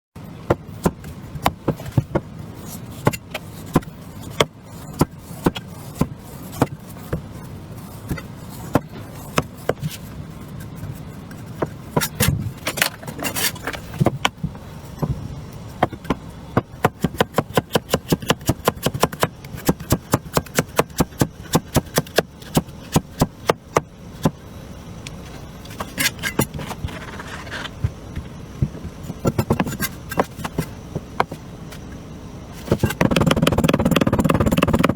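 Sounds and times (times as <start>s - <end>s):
low steady hum: 0.2s - 34.9s.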